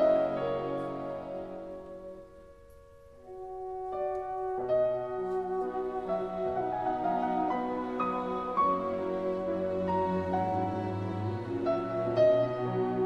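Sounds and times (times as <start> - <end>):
slow orchestral music with piano: 0.0 - 13.0.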